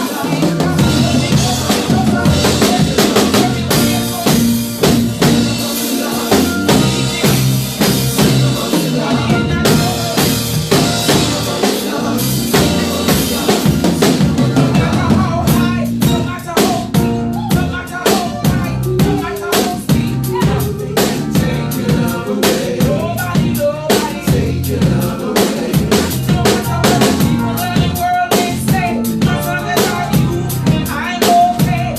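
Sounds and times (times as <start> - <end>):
drum kit beat: 0.0 - 31.9
gospel band playing: 0.0 - 31.9.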